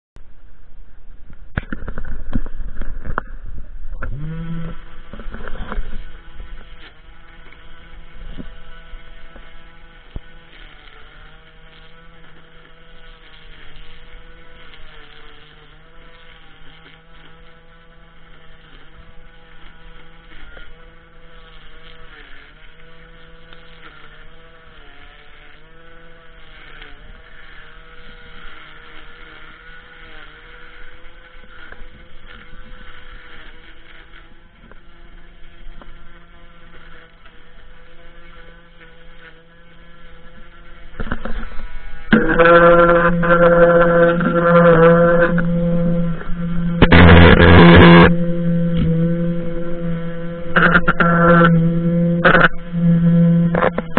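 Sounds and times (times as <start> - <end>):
string trimmer motor whirring: 1.0 - 53.9.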